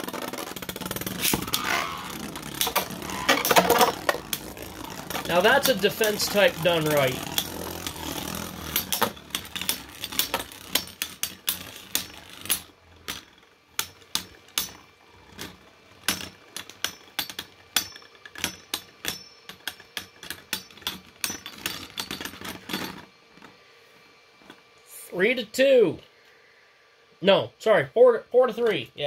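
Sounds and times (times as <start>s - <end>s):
plastic spinning tops clashing: 0.0s - 23.5s.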